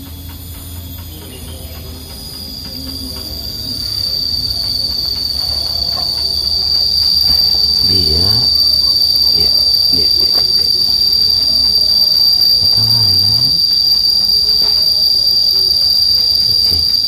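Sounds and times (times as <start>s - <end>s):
shrill insect drone: 0.0s - 17.0s.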